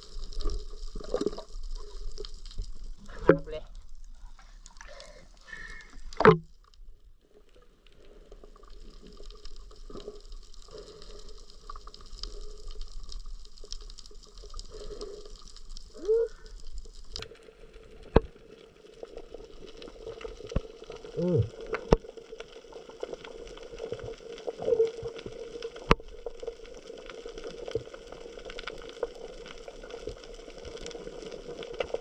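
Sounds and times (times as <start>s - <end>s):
water pouring in stream: 0.0s - 3.4s, 7.6s - 32.0s.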